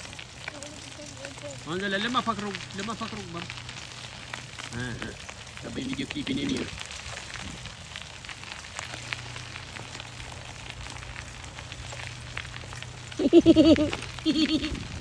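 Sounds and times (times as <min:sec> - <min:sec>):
bicycle tyres crunching on gravel: 0:00.0 - 0:15.0.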